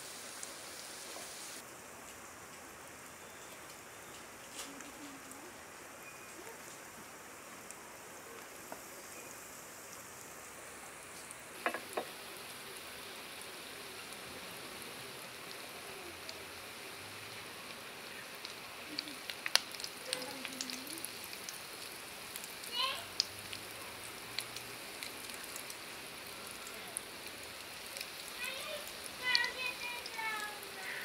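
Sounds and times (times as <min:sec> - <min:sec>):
food sizzling in hot oil: 0:00.0 - 0:01.6, 0:07.6 - 0:31.0.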